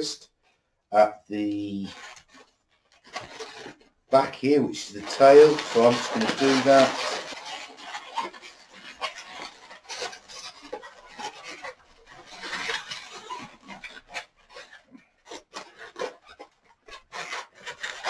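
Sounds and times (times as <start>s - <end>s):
balloon rubber squeaking: 1.0s - 18.0s.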